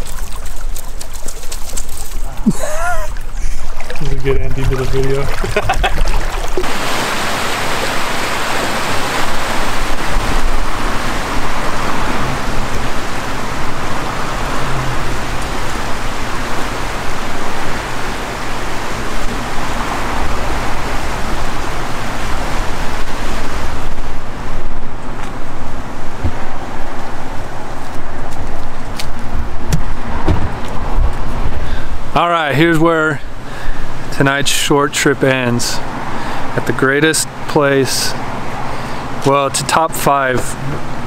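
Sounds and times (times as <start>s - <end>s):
river water rushing: 0.0s - 30.2s, 35.4s - 41.0s.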